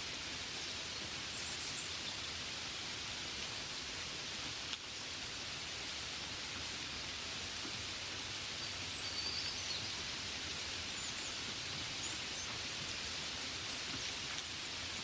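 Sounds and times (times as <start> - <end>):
gentle rain falling: 0.0 - 15.0.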